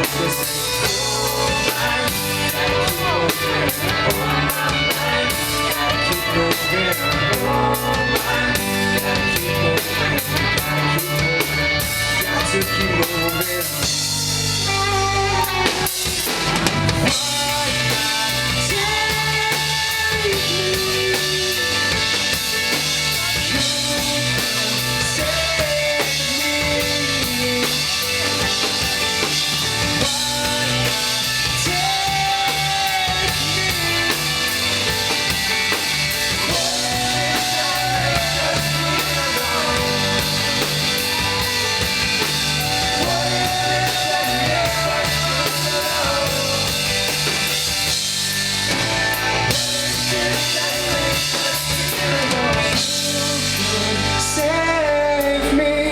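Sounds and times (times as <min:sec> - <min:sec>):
drum kit beat: 0:00.0 - 0:54.6
melodic lead line: 0:00.0 - 0:55.9.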